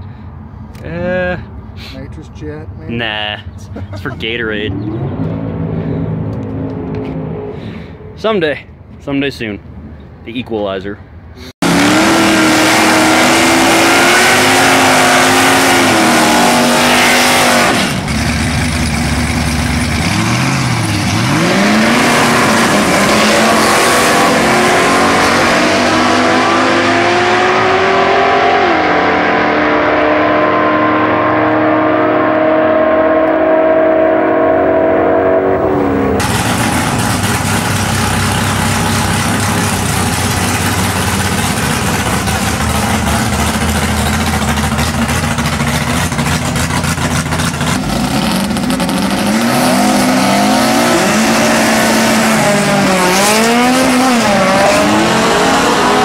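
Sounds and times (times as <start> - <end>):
race car engine revving and accelerating: 4.5 - 7.8, 11.6 - 56.0.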